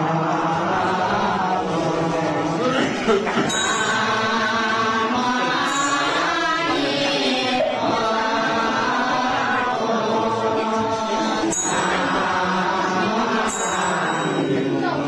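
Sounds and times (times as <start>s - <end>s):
voices chanting slow notes: 0.0s - 15.0s.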